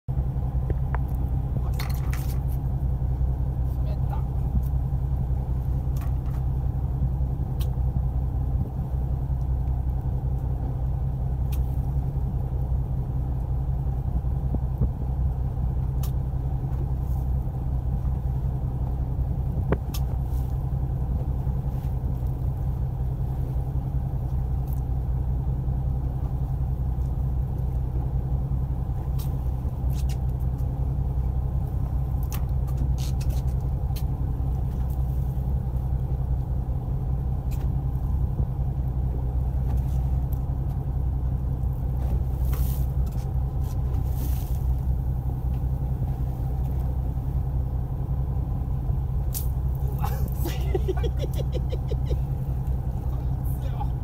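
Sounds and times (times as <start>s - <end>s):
boat motor humming: 0.1s - 54.0s.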